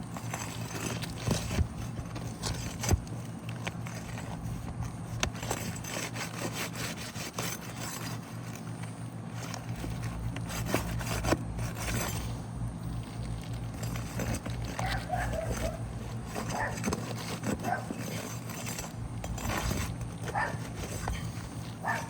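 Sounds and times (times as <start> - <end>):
steady low hum: 0.0 - 22.0
tool scraping under shingles: 0.0 - 22.0.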